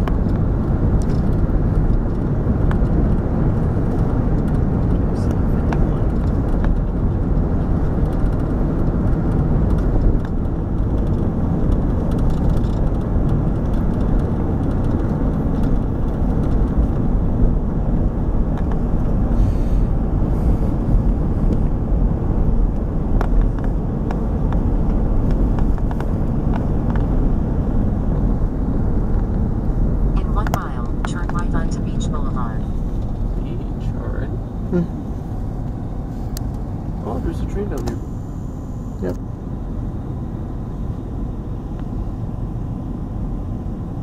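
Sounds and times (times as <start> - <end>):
vehicle travel rumble: 0.0 - 44.0.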